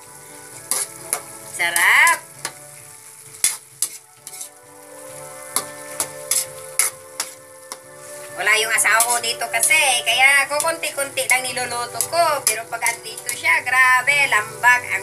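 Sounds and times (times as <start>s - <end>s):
food sizzling: 0.0s - 15.0s
spatula scraping metal wok: 0.2s - 15.0s.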